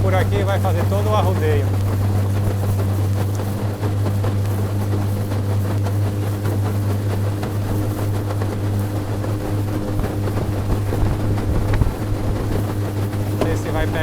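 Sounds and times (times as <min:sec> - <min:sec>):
boat motor humming: 0:00.0 - 0:14.0
water rushing: 0:00.0 - 0:14.0.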